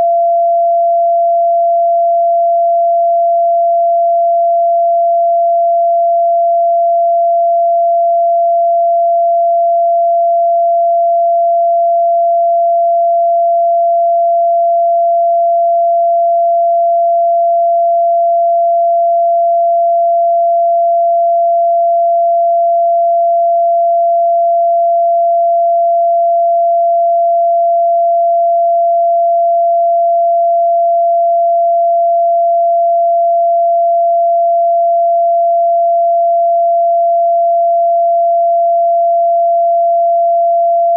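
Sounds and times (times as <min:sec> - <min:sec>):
pure sine tone: 0:00.0 - 0:40.9.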